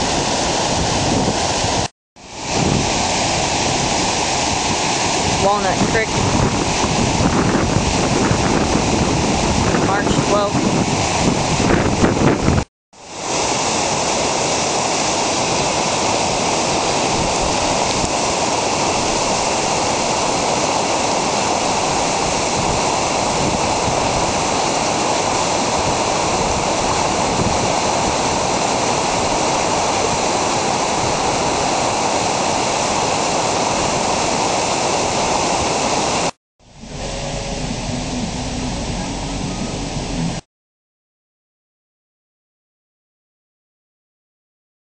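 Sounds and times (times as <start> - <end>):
creek rushing over rapids: 0.0 - 40.4.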